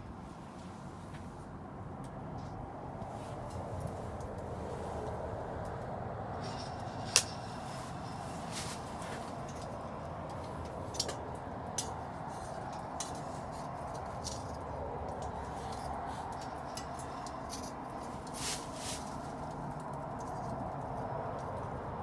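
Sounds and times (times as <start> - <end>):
bonfire crackling and popping: 3.4 - 21.9.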